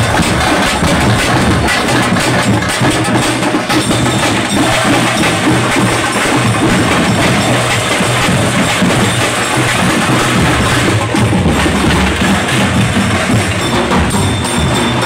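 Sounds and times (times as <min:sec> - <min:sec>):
drum troupe playing fast beat: 0:00.0 - 0:15.0.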